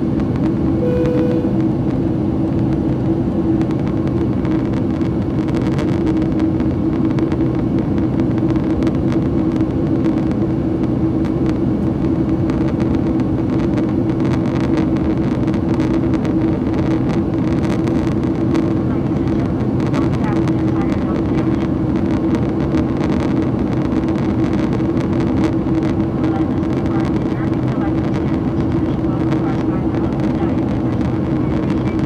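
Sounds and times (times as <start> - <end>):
airplane cabin engine hum: 0.0 - 32.0.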